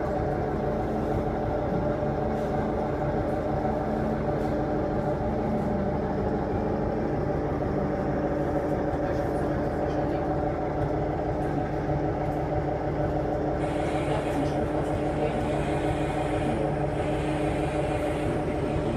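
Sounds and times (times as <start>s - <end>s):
submarine engine droning: 0.0s - 18.9s.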